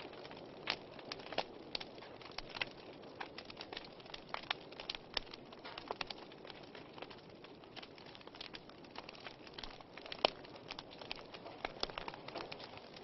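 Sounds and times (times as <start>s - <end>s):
wood fire crackling: 0.0s - 13.0s
sharp pops from burning log: 0.1s - 13.0s.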